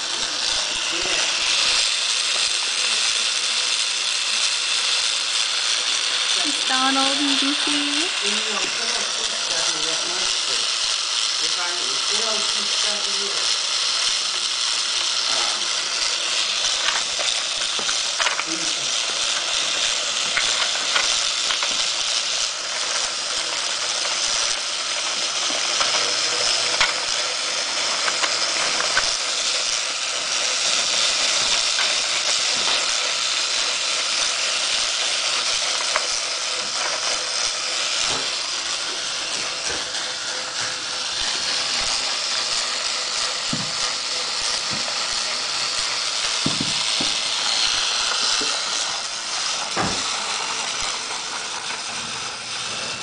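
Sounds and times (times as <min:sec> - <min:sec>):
toy train hissing rattle: 0:00.0 - 0:53.0.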